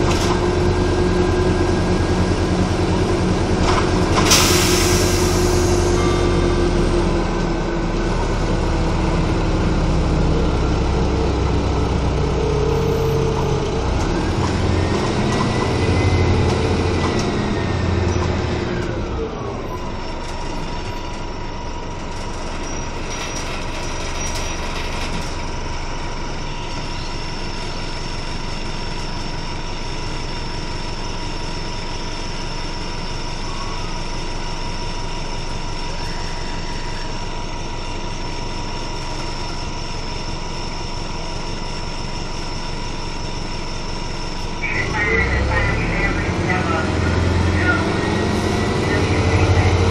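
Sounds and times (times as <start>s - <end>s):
bus engine and driveline running: 0.0s - 49.9s
engine whine: 0.0s - 49.9s.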